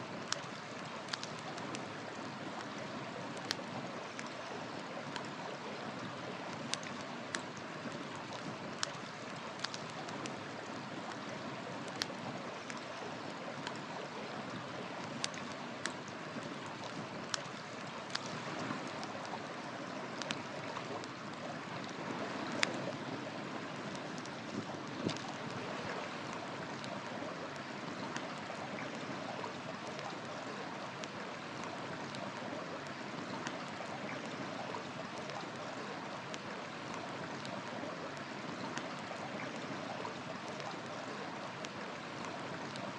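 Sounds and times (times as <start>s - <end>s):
wood fire crackling and popping: 0.0s - 23.0s, 23.7s - 42.9s
river water rushing: 0.0s - 42.9s.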